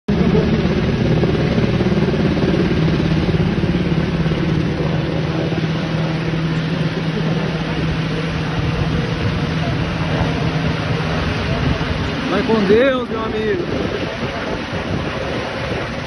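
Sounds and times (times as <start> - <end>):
helicopter flying overhead: 0.1 - 16.0.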